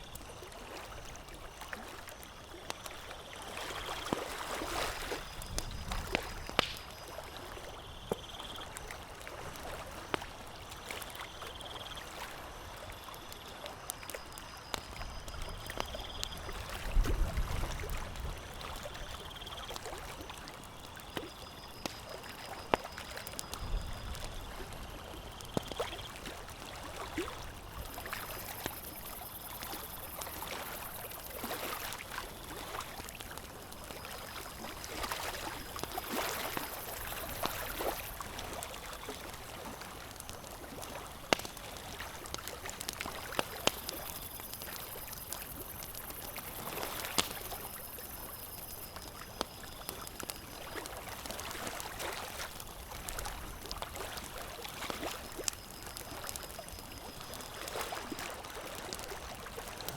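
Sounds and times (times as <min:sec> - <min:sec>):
soft wash of water: 0:00.0 - 0:12.9, 0:15.4 - 0:59.9
campfire crackling and popping: 0:00.1 - 0:59.9.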